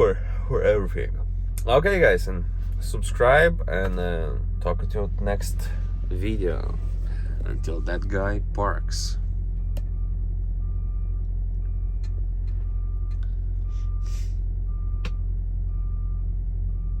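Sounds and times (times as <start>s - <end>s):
low engine drone: 0.0s - 17.0s
truck reversing alarm beeping: 0.0s - 17.0s.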